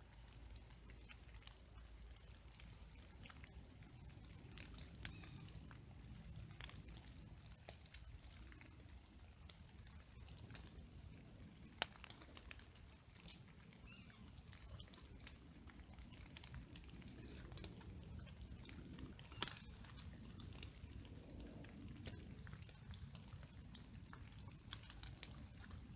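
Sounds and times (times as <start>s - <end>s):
faint low rumble: 0.0s - 25.9s
raindrops ticking: 0.0s - 25.9s.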